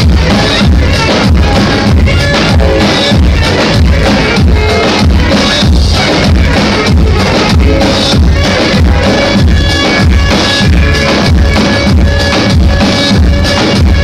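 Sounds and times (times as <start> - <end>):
bass drums beating: 0.0 - 14.0
clarinet melody: 0.0 - 14.0.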